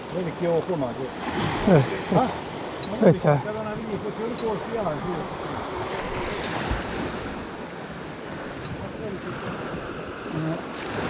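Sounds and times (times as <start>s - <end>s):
sea waves on rocky shore: 0.0s - 11.0s
wind buffeting microphone: 1.3s - 11.0s.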